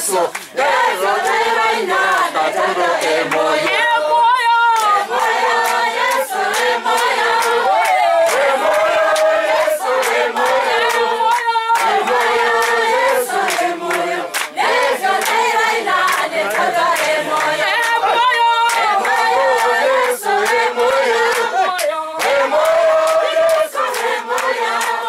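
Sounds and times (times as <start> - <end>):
hands clapping: 0.0 - 25.0
women's choir singing: 0.0 - 25.0.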